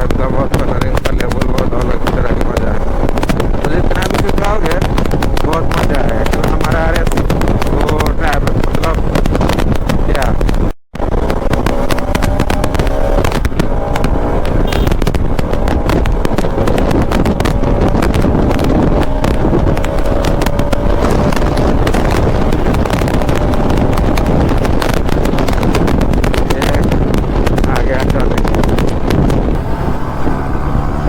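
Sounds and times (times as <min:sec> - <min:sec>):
motorcycle engine at speed: 0:00.0 - 0:31.0
wind buffeting microphone: 0:00.0 - 0:31.0.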